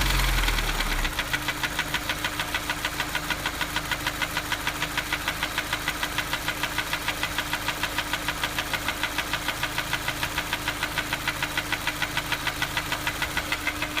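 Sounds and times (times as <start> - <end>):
car engine running: 0.0 - 14.0
rapid engine tapping: 0.0 - 14.0.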